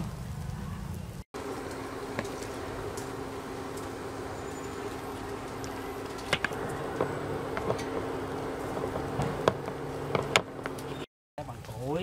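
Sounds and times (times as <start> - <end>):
induction cooktop buzzing hum: 1.4 - 11.1.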